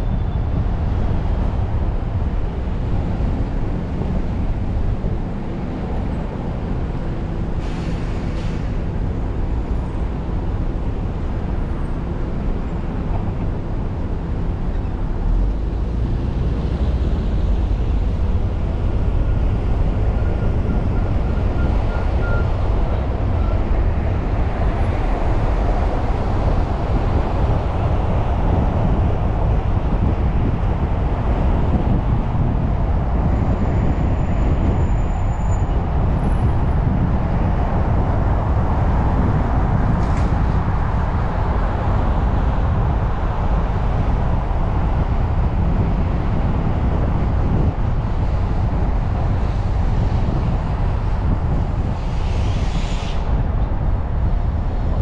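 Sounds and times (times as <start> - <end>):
road and engine rumble: 0.0 - 55.0.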